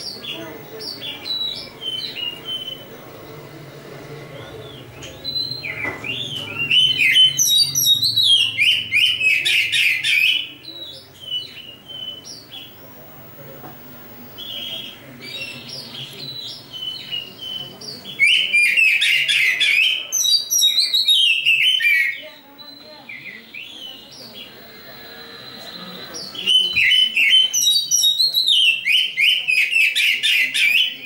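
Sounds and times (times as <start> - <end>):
magpie-robin singing: 0.0 - 3.4, 4.5 - 12.9, 14.4 - 31.0.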